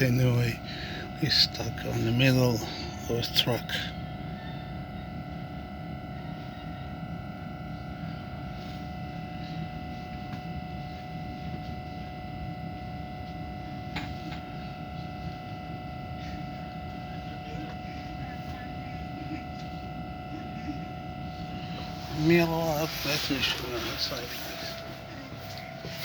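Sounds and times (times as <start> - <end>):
train ventilation rumble: 0.0 - 26.0.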